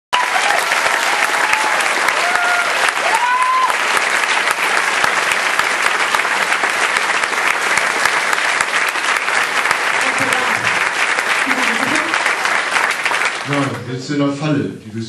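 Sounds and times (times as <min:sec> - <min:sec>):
audience applauding: 0:00.1 - 0:13.9.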